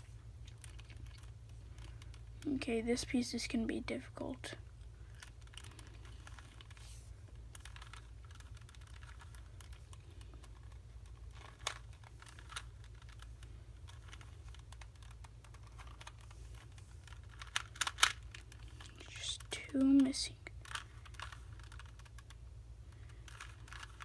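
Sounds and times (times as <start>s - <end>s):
puzzle cube clicking: 0.4s - 2.4s, 5.0s - 24.0s.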